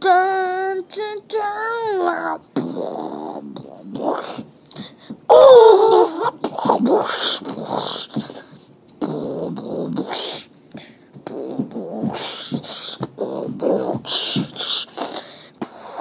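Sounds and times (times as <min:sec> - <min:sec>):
beatboxing: 0:02.5 - 0:16.0.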